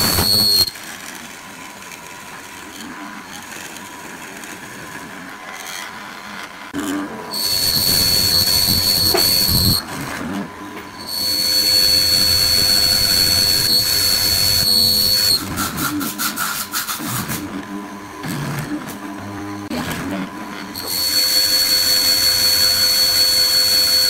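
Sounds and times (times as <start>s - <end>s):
mortiser whining: 0.0s - 0.9s, 1.6s - 24.0s.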